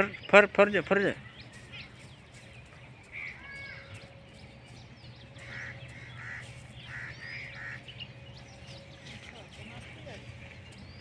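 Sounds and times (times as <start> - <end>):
birds short calls: 0.0 - 11.0.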